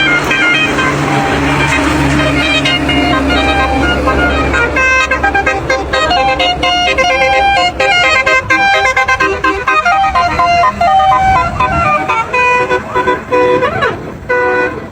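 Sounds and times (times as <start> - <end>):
musical truck horn melody: 0.0 - 14.9.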